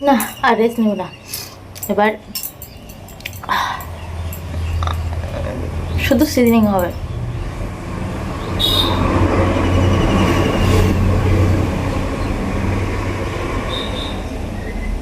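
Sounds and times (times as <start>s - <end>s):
heavy vehicle rumble passing: 2.8s - 15.0s.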